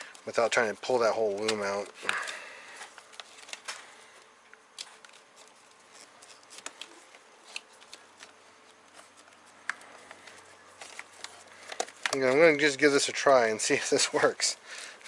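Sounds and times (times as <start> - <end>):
faint steady hum: 0.0 - 15.0
wiring rustling: 0.0 - 15.0.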